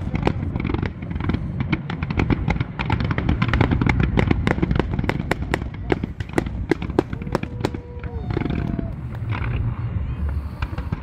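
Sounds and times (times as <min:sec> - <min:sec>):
fireworks popping and banging: 0:00.0 - 0:11.0
low rumble of fireworks: 0:00.0 - 0:11.0.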